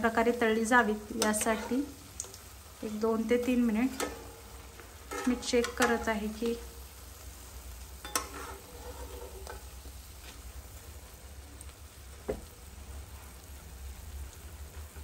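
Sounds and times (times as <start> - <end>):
potato slices sizzling in oil: 0.0 - 15.0.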